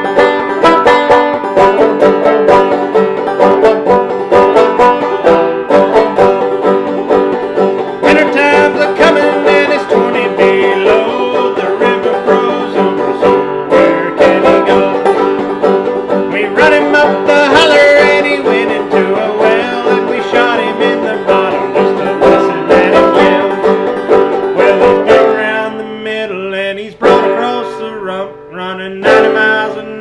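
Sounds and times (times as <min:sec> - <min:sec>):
banjo playing: 0:00.0 - 0:30.0.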